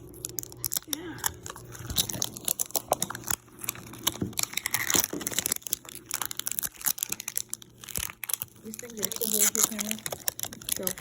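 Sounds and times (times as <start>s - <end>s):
plastic packaging crinkling and tearing: 0.0s - 11.0s.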